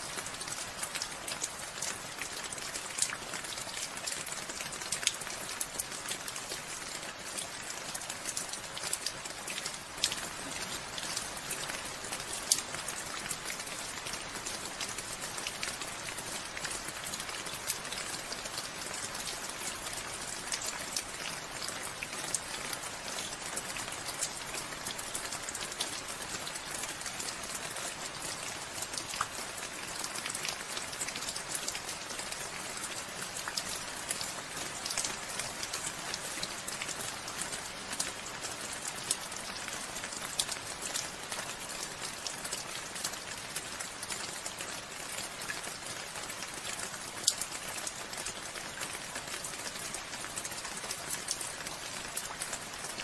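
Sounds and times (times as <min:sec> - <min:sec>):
rain drops pattering on a surface: 0:00.0 - 0:53.0.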